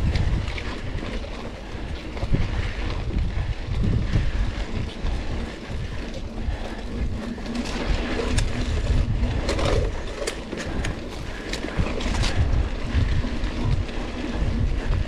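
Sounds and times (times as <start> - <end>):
bike clicking and rattling: 0.0 - 15.0
wind buffeting microphone: 0.0 - 15.0.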